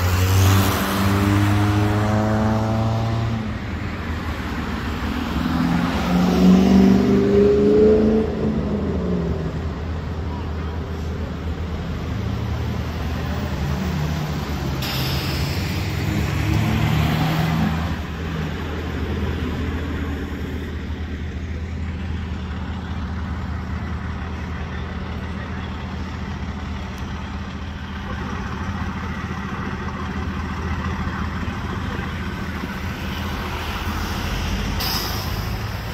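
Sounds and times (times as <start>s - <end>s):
vehicle engines idling: 3.3s - 6.0s, 8.2s - 35.9s.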